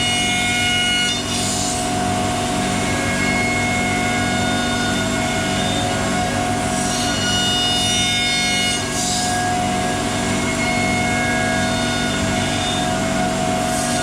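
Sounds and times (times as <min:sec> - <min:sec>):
hiss of router cutting wood: 0:00.0 - 0:14.0
router machine whine: 0:00.0 - 0:14.0.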